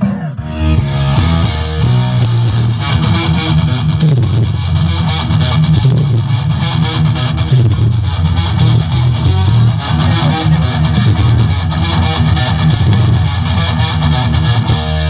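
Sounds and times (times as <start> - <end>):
distorted electric guitar music: 0.0 - 15.0
heavy bass line: 0.0 - 15.0.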